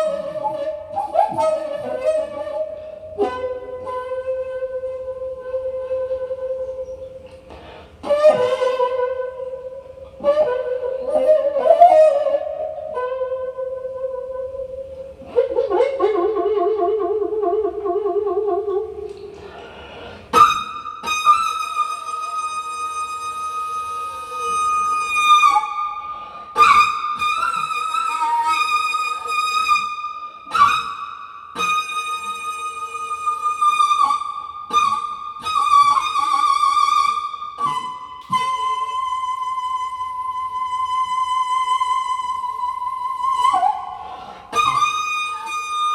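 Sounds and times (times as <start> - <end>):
bamboo flute solo: 0.0 - 45.9.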